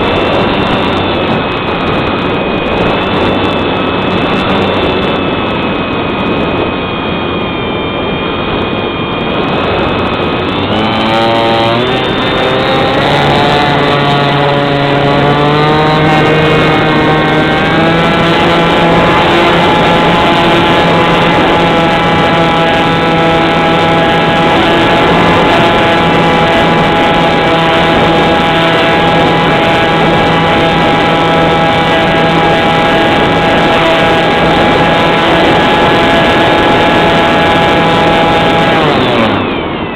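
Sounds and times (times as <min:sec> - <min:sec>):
spinning machine whine: 0:00.0 - 0:39.9.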